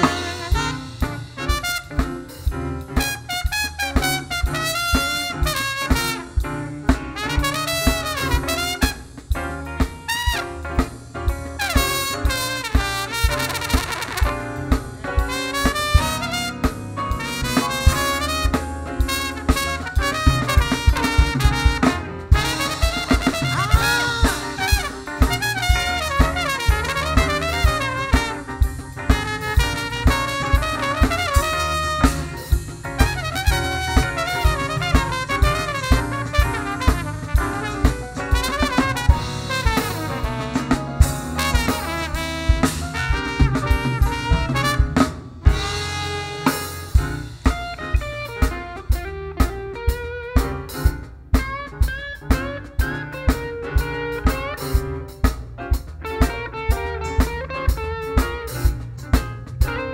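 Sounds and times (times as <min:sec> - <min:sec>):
trumpet solo: 0:00.0 - 0:55.2, 0:56.0 - 0:59.9
drum kit: 0:00.0 - 0:59.9
electric bass: 0:00.0 - 0:59.9
keyboard: 0:00.0 - 0:59.9.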